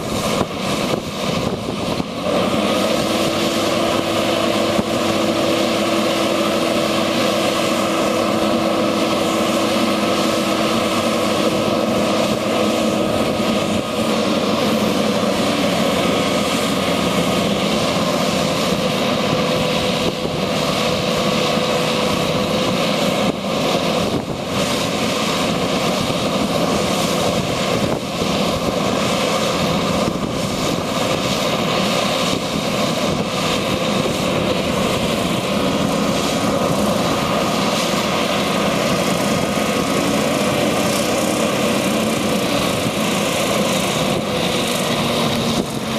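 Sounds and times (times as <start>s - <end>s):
diesel truck engine running: 0.0s - 45.9s
droning whine: 0.0s - 45.9s.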